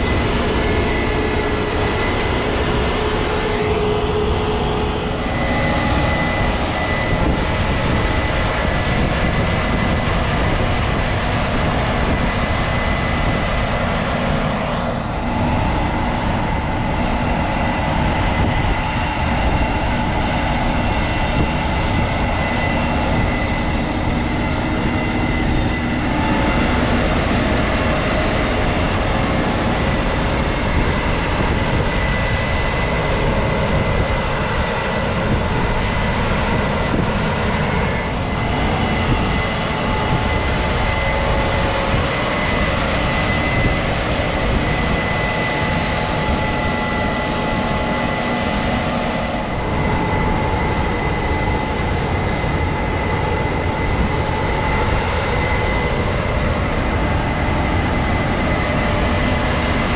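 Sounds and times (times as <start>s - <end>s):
combine harvester drone: 0.0s - 59.9s.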